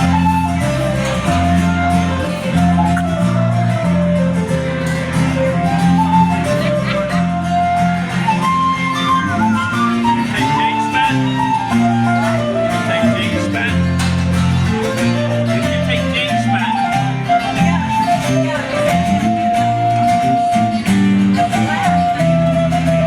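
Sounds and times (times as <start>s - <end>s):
ornamented lead melody: 0.0s - 23.0s
strummed guitar chords: 0.0s - 23.0s.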